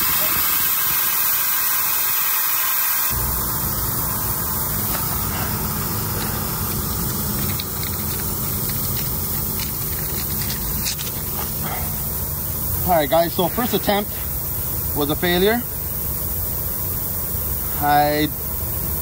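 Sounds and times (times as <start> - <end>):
air hissing from tire: 0.0 - 19.0.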